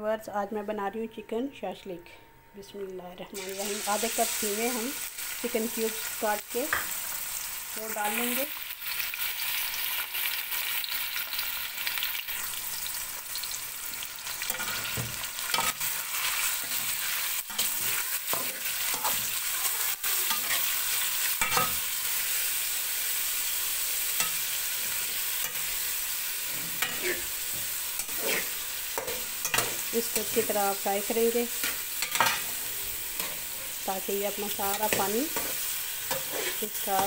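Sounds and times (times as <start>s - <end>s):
chicken sizzling in a pot: 3.3s - 37.0s.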